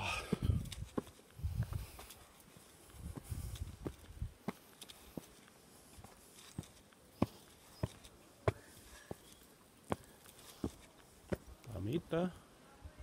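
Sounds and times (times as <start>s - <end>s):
footsteps on hard path: 0.0s - 11.6s.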